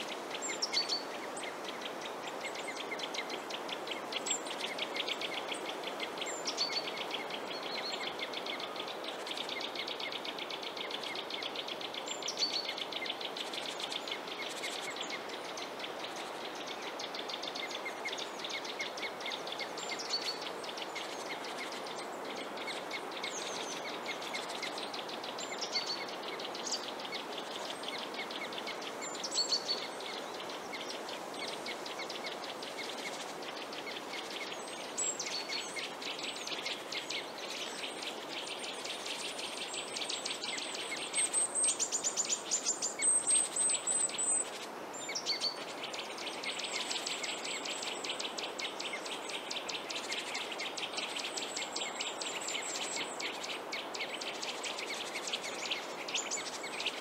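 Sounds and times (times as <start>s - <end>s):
background hiss: 0.0s - 57.0s
birds chirping and trilling: 0.0s - 57.0s.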